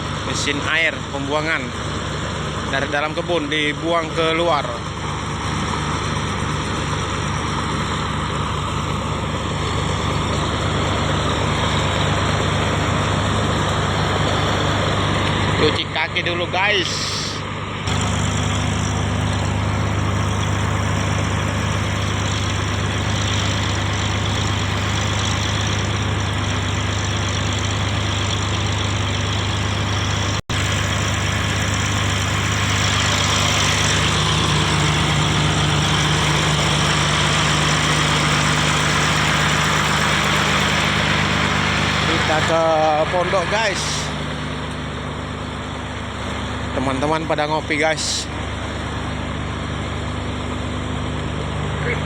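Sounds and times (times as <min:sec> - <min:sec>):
diesel pump engine running: 0:00.0 - 0:52.0.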